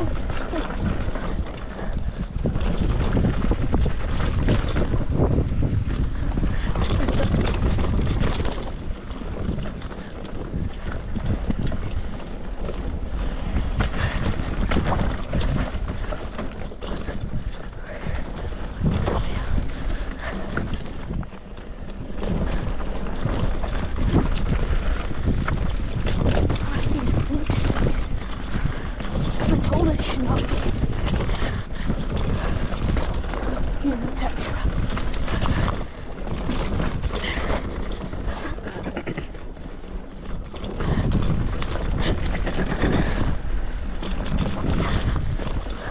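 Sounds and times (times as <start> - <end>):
mountain bike rattling on trail: 0.0 - 45.9
wind on microphone: 0.0 - 45.9.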